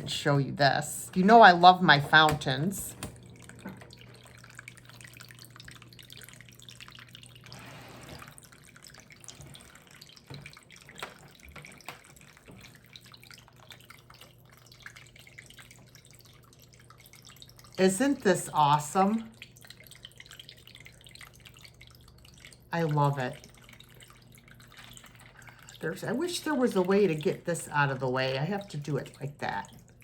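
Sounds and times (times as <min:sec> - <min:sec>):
electric pump humming: 0:00.0 - 0:30.0
fountain water trickling: 0:00.9 - 0:30.0.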